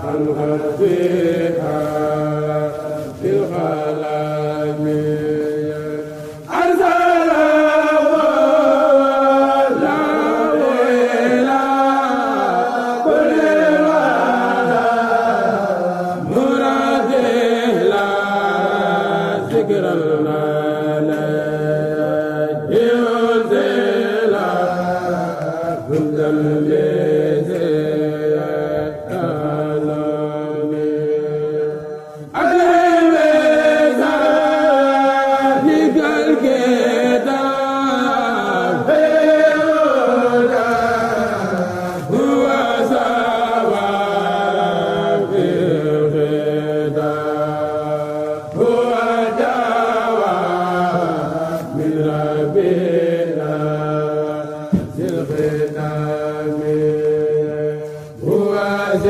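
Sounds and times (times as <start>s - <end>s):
male voices chanting: 0.0s - 59.0s.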